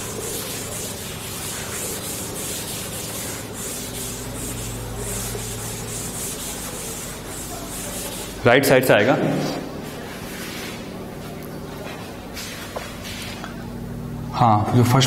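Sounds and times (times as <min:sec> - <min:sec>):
duster rubbing chalkboard: 0:00.0 - 0:13.6.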